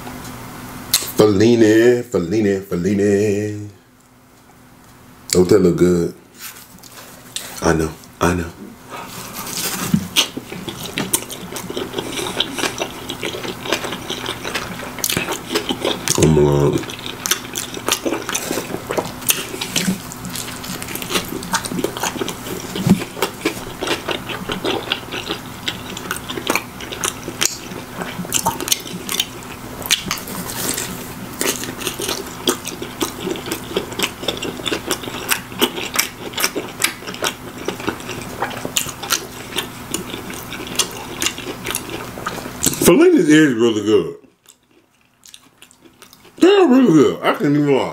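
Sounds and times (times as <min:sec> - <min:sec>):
faint low hum: 0:00.0 - 0:47.9
man chewing pizza: 0:00.9 - 0:01.2, 0:06.3 - 0:47.9.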